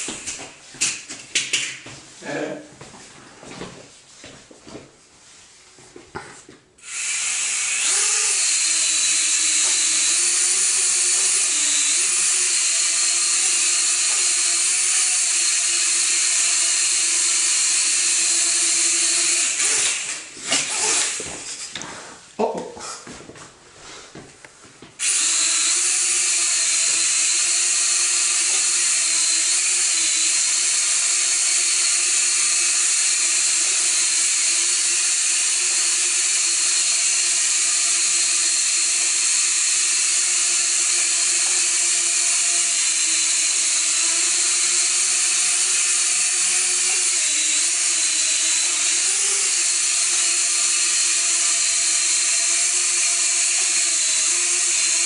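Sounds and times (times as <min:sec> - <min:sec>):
quadcopter buzzing whine: 0:06.8 - 0:21.7, 0:25.0 - 0:55.0.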